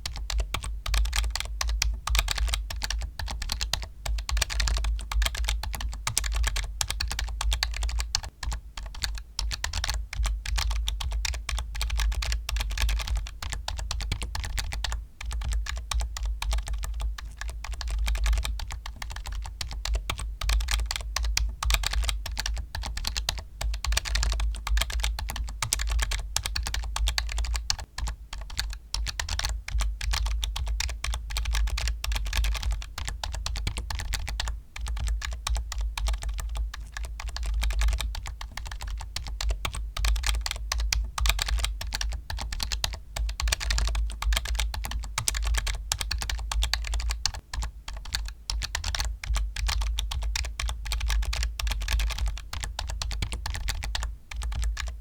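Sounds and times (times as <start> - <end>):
fast keyboard typing: 0.0 - 55.0.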